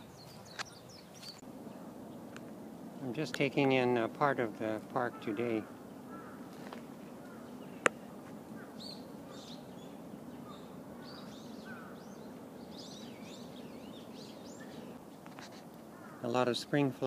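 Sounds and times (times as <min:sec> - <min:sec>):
small birds chirping: 0:00.0 - 0:16.8
low background noise: 0:00.0 - 0:17.0.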